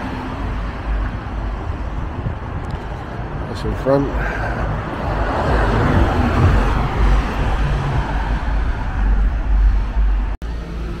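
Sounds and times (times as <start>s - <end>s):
vehicle passing with rumble: 0.0s - 11.0s.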